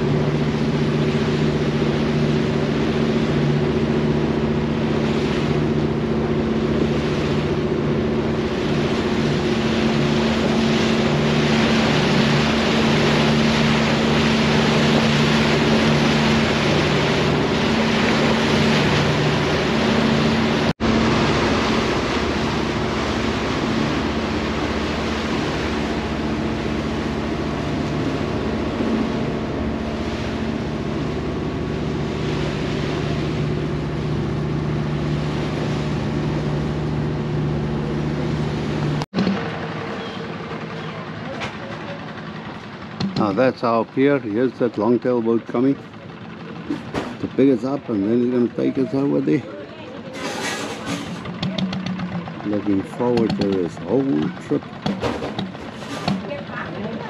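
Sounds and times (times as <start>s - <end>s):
ferry engine humming: 0.0s - 57.0s
water rushing: 0.0s - 57.0s
wind: 0.0s - 57.0s.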